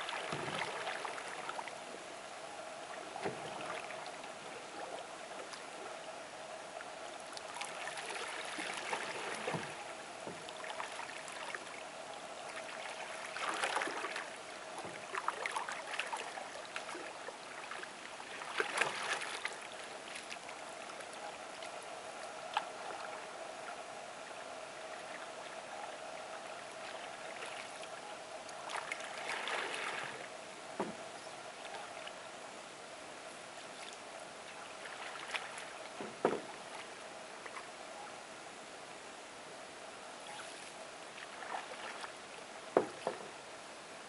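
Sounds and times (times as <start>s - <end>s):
lake water lapping: 0.0s - 32.5s, 33.4s - 38.2s, 40.1s - 43.4s
faint steady hum: 0.0s - 44.0s.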